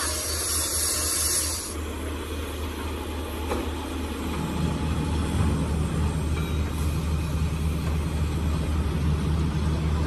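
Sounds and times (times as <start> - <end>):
heavy engine running: 1.7 - 10.0.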